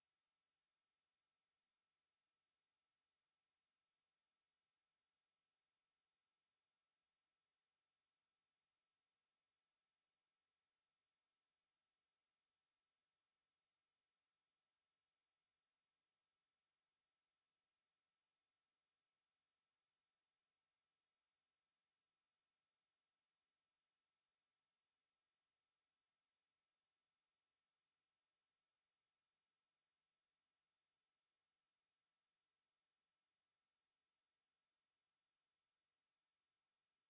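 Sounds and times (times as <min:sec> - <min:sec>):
high-pitched sine test tone: 0:00.0 - 0:37.0.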